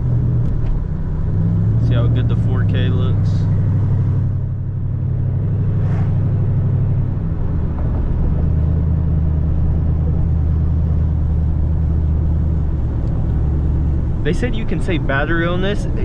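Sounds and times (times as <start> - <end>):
car engine running inside cabin: 0.0 - 16.0.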